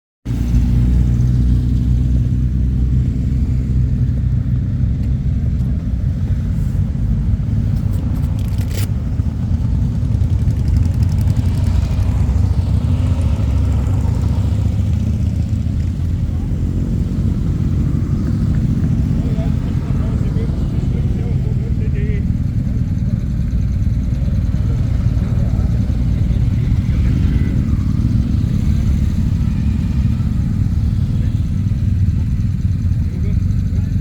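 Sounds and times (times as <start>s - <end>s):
motorcycle engines idling: 0.3s - 34.0s.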